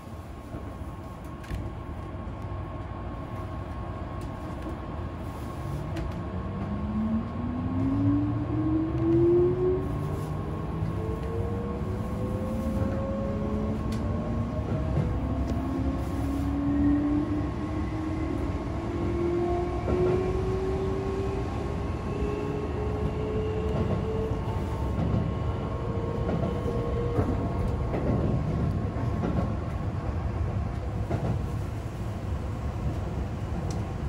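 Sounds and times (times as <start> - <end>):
train running gear rumble: 0.0 - 34.0.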